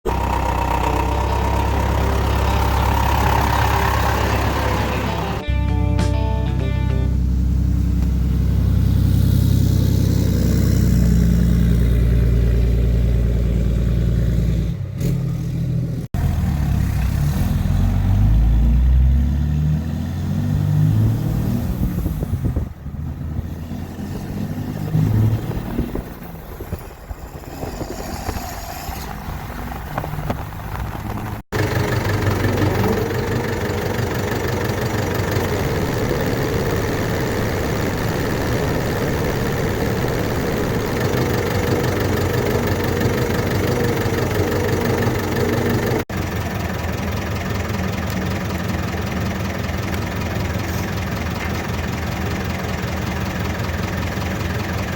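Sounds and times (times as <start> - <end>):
heavy engine running: 0.0 - 54.9.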